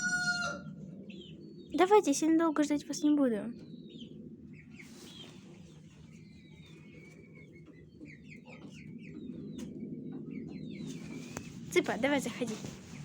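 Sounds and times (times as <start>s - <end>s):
chicks peeping: 0.0s - 1.8s, 3.5s - 13.0s.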